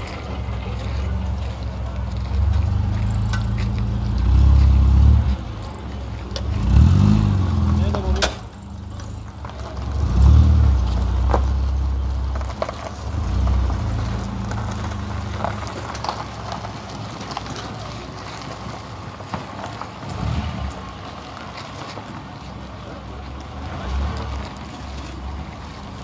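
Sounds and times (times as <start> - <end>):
low engine-like rumble: 0.0 - 26.0.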